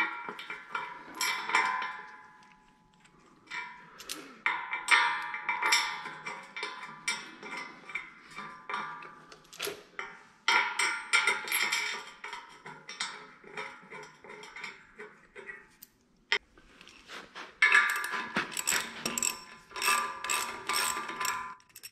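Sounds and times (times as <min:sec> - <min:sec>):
bolts clinking on steel plate: 0:00.0 - 0:15.8, 0:17.6 - 0:21.9.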